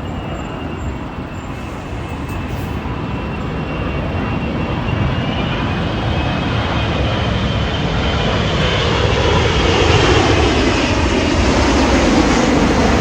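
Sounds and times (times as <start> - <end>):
high jet whine: 0.0 - 13.0
jet engines rumbling: 0.0 - 13.0.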